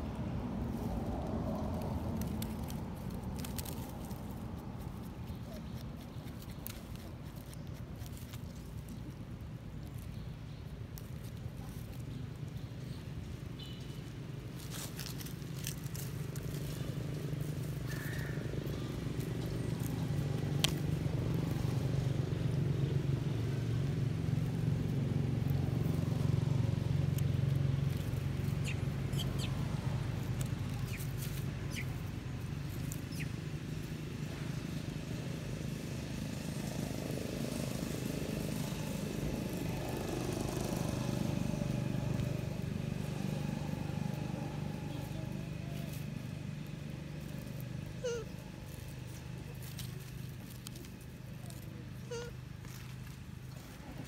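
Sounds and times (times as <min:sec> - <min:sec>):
motor engine humming: 0:00.0 - 0:54.0
faint clicks and rustles: 0:00.1 - 0:34.6, 0:38.6 - 0:54.0.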